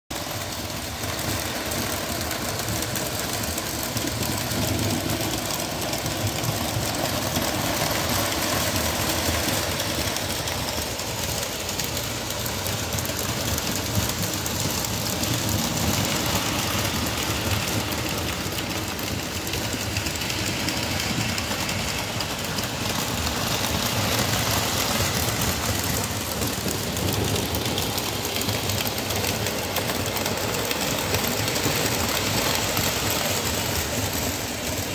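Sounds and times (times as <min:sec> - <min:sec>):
model train motors and wheels on rails: 0:00.1 - 0:34.9.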